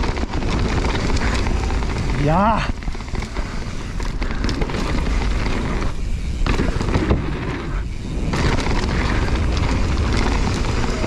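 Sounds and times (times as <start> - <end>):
bike tyres rolling on dirt: 0.0 - 11.0.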